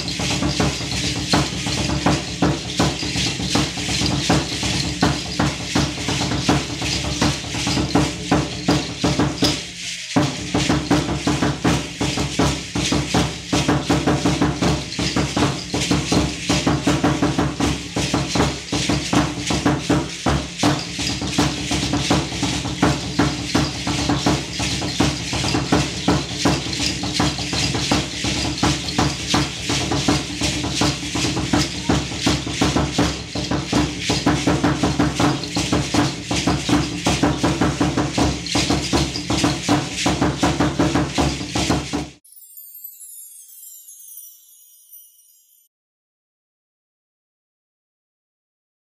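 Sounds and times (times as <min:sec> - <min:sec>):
dancers' rattles: 0:00.0 - 0:42.0
drum beaten in fast rhythm: 0:00.0 - 0:42.2.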